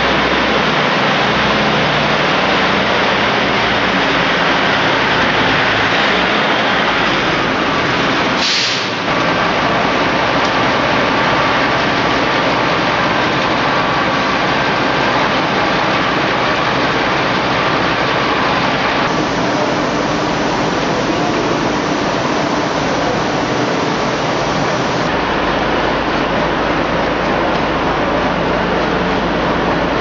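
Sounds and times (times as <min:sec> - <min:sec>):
heavy diesel machinery roar: 0:00.0 - 0:30.0
loader running: 0:00.0 - 0:30.0.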